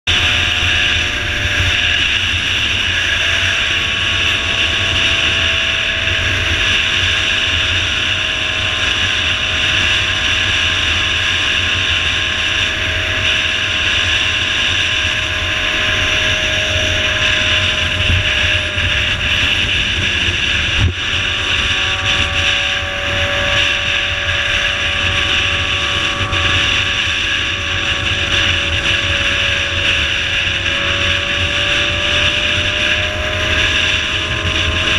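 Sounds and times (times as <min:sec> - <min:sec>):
motorcycle engine cruising: 0:00.0 - 0:34.9
wind rush on microphone: 0:00.1 - 0:34.9.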